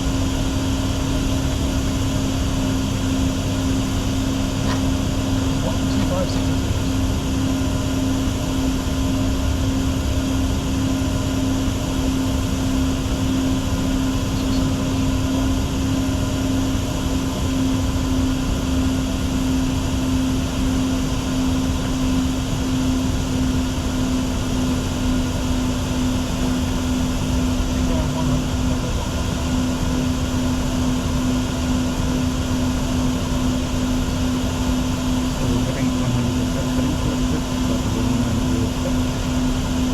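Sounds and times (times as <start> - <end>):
constant low hum: 0.0 - 39.9.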